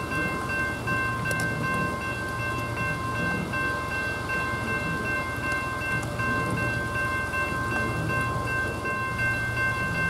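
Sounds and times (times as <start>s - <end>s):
crossing bell ringing: 0.0s - 10.0s
train rumble: 0.0s - 10.0s.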